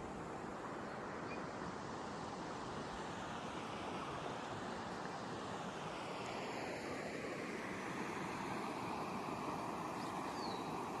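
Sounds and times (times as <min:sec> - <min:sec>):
river flowing over rocks: 0:01.6 - 0:11.0.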